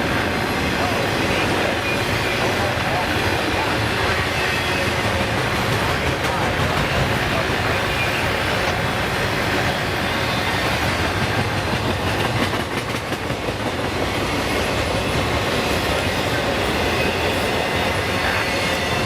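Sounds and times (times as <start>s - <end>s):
train rumble: 0.0s - 19.0s
train wheels clacking over joints: 0.0s - 19.0s.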